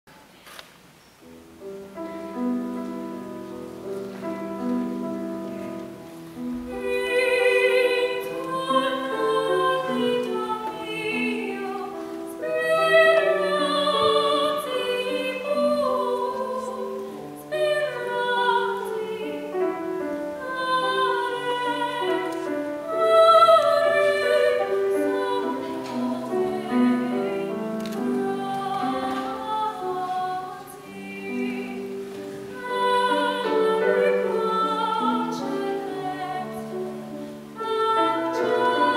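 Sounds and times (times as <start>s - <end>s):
grand piano: 0.1s - 38.9s
woman singing opera: 6.6s - 38.9s.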